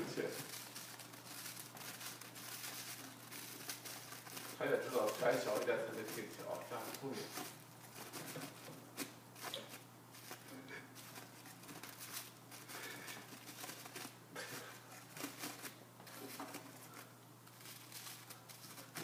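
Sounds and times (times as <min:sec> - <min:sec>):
plastic crinkling and rustling: 0:00.0 - 0:19.0.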